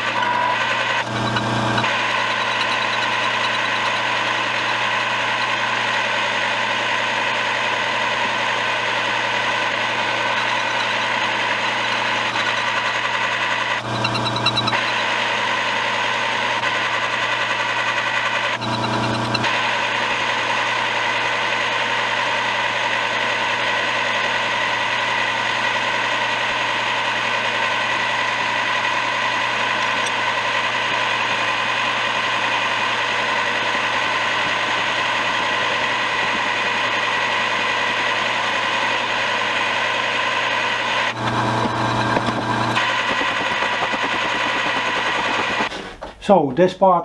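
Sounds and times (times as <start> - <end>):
milling machine running: 0.0 - 46.1.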